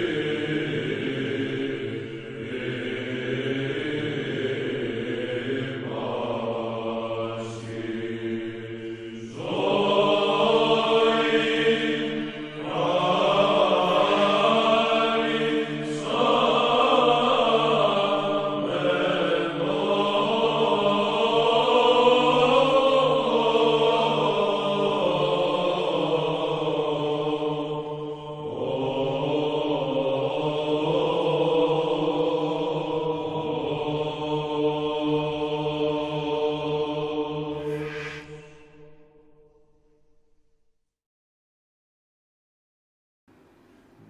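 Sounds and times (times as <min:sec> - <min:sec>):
men chanting over low drone: 0:00.0 - 0:39.2.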